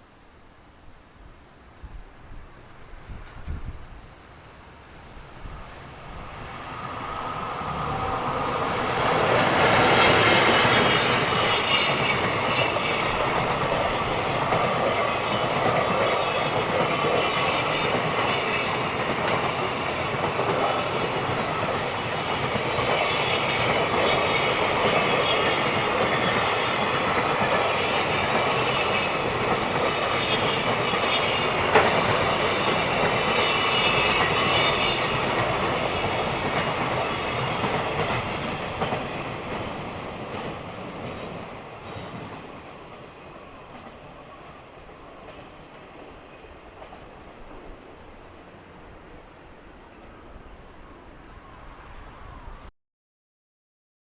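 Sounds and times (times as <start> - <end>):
freight train rolling on rails: 1.0 - 52.7.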